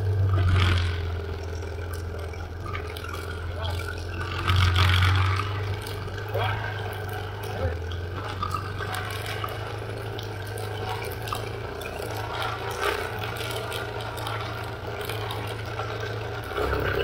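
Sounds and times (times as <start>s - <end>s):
tyres crunching on gravel: 0.0s - 17.0s
vehicle engine droning: 0.0s - 17.0s.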